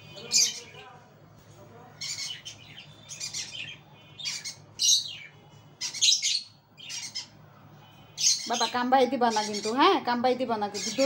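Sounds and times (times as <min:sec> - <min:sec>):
parrots chirping and squawking: 0:00.0 - 0:00.9, 0:02.0 - 0:11.0.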